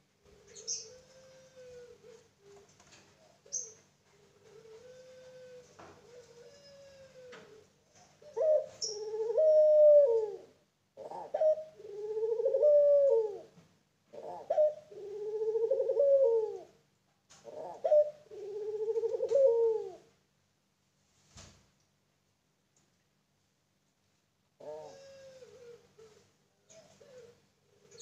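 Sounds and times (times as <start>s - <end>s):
dove cooing: 0.2s - 16.8s, 17.4s - 20.1s, 24.6s - 28.0s.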